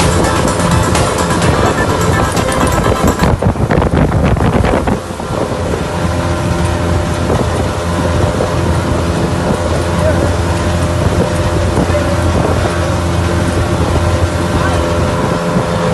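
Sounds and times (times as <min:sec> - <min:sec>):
motorboat engine running: 0:00.0 - 0:15.9
water rushing and wind: 0:00.0 - 0:15.9.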